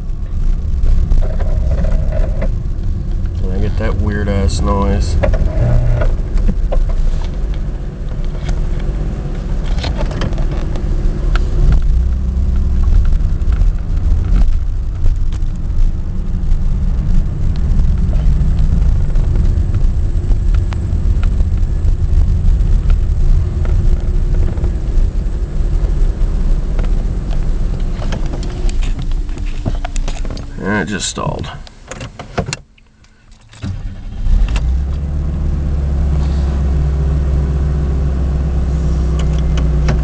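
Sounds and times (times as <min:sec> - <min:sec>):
car engine running unevenly: 0:00.0 - 0:40.0.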